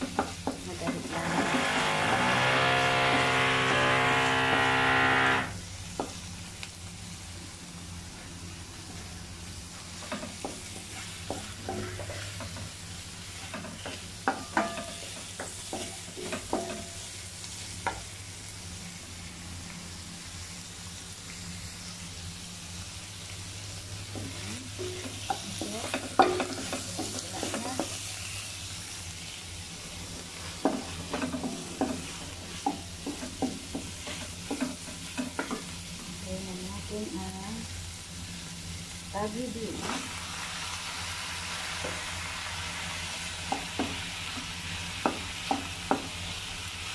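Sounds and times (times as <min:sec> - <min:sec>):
food sizzling in a pan: 0:00.0 - 0:46.9.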